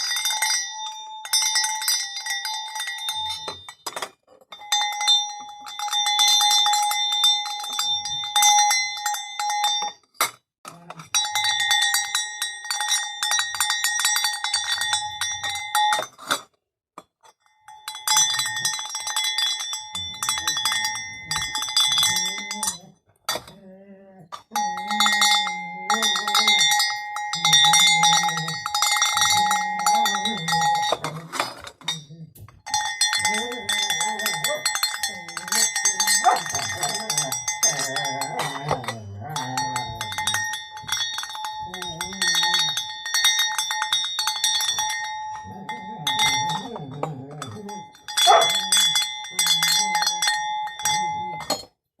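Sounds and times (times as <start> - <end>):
dog bell clanging: 0.0 - 16.4, 17.2 - 23.7, 24.3 - 51.8.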